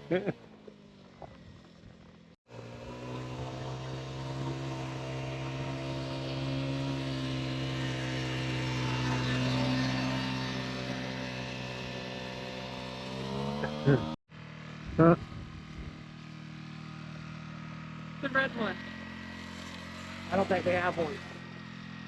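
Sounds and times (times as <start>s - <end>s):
motor engine humming: 0.0s - 22.0s.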